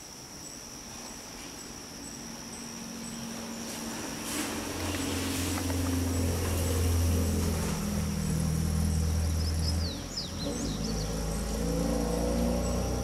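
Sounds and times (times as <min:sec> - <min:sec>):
high insect whine: 0:00.0 - 0:13.0
vehicle engine hum: 0:02.2 - 0:13.0.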